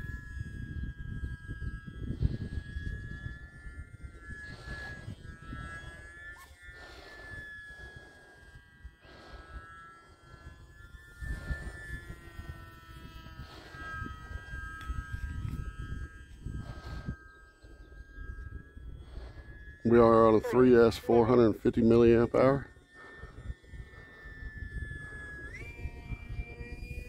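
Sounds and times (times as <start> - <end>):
model plane motor whining: 0.0 - 27.0
wind on microphone: 0.0 - 27.0.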